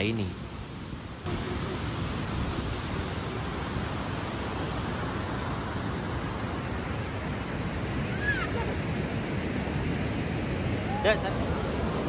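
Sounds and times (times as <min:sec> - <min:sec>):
ocean surf washing onto sand: 0:00.0 - 0:12.0.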